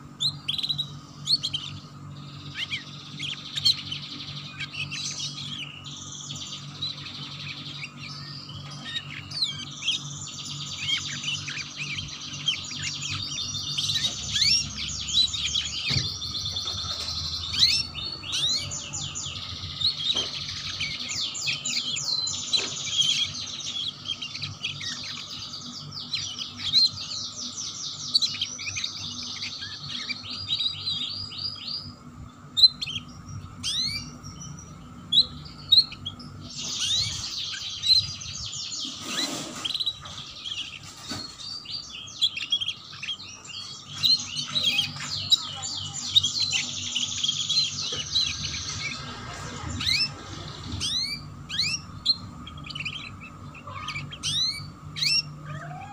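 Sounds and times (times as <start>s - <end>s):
canary singing rapid trills: 0.0s - 55.9s
faint steady hum: 0.0s - 55.9s.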